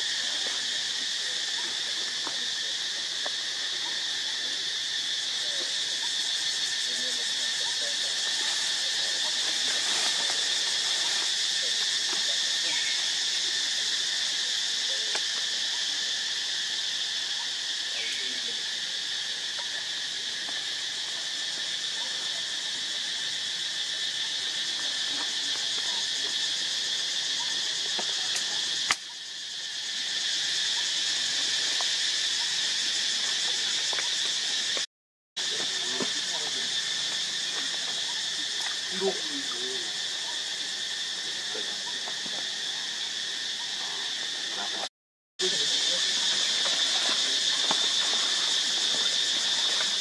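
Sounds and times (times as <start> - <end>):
high-pitched insect chorus: 0.0 - 50.0.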